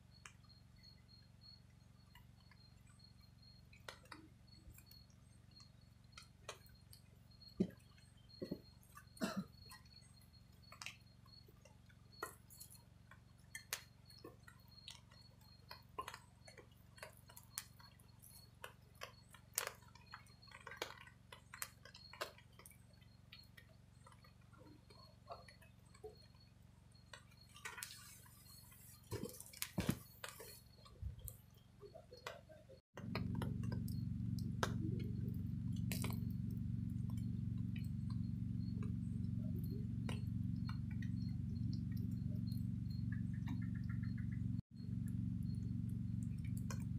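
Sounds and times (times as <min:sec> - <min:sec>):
campfire crackling and popping: 0:03.6 - 0:26.2, 0:27.1 - 0:31.6, 0:32.2 - 0:46.9.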